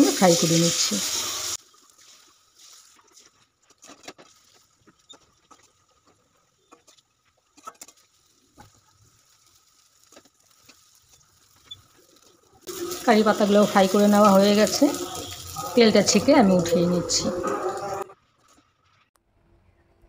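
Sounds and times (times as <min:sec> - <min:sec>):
leaves frying in oil: 0:00.0 - 0:19.1.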